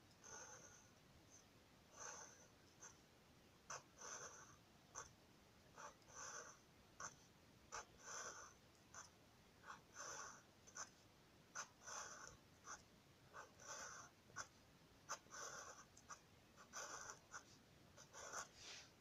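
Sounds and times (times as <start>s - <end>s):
marker scratching on paper: 2.0s - 3.0s, 3.7s - 11.0s, 11.6s - 19.0s.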